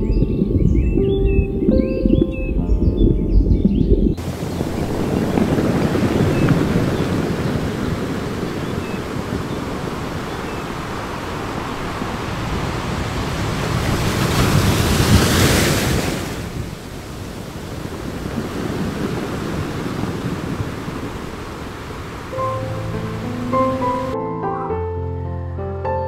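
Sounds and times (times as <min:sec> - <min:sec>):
ocean waves washing: 0:00.0 - 0:24.2
wave breaking: 0:00.0 - 0:24.2.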